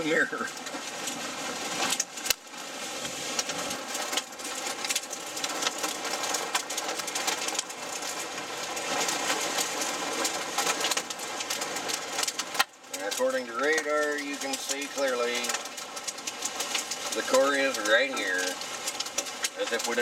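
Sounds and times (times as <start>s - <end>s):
hail and rain on car roof: 0.0s - 20.0s.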